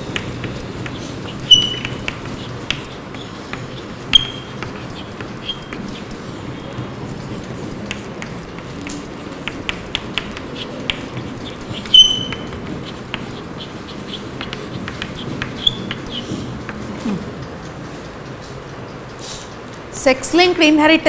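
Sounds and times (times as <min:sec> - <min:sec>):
chalk tapping and scratching: 0:00.0 - 0:16.9
high chalk squeak: 0:00.0 - 0:16.9.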